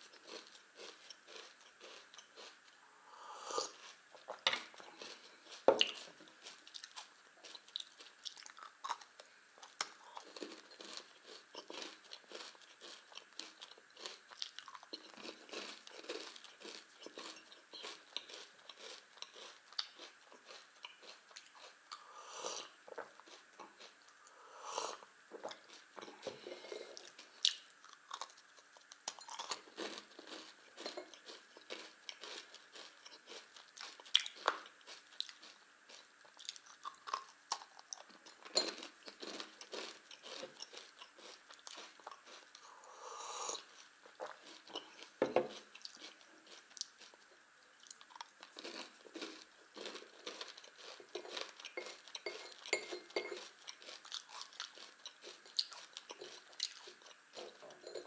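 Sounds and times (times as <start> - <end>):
chewing and crunching candy: 0.0 - 2.8, 3.6 - 42.7, 43.5 - 58.0.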